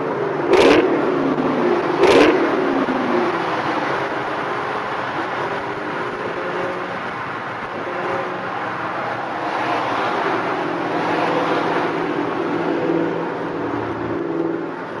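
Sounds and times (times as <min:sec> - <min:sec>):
car exhaust drone: 0:00.0 - 0:15.0
road and wind noise: 0:00.0 - 0:15.0.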